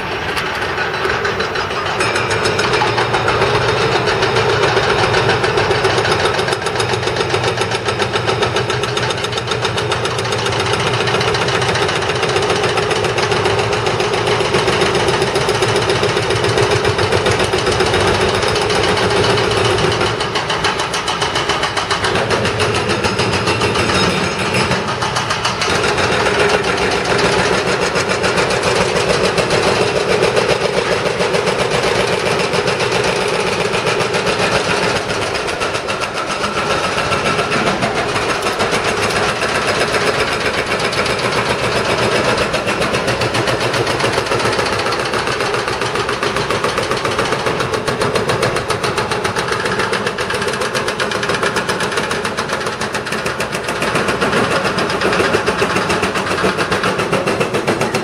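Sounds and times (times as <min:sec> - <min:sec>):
excavator diesel engine: 0:00.0 - 0:58.0
hydraulic breaker pounding concrete: 0:00.0 - 0:58.0.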